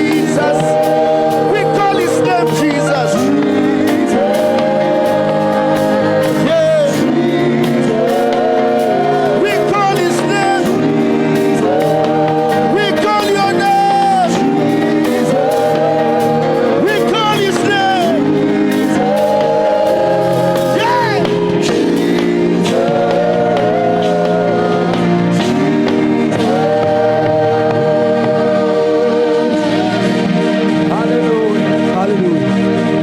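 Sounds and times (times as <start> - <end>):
gospel voices singing: 0.0 - 33.0
instrumental accompaniment: 0.0 - 33.0.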